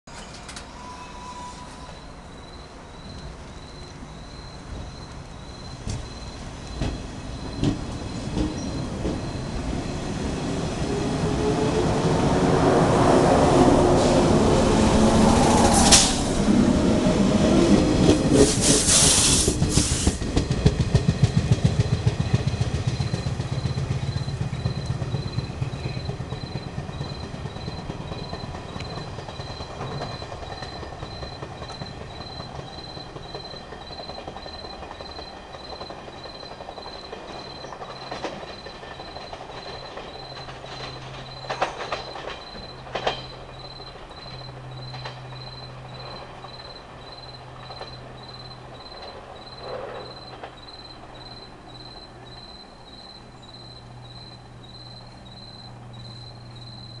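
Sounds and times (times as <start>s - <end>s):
electric train pulling away: 0.1s - 57.0s
wheels clattering over rail joints: 4.4s - 57.0s.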